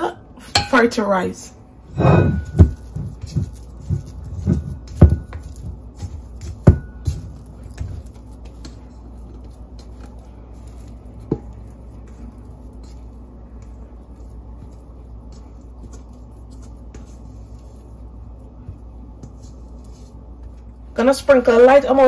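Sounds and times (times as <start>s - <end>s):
steady low hum: 0.0s - 22.0s
spatula scraping dough from bowl: 1.9s - 20.7s
dough squishing: 1.9s - 22.0s.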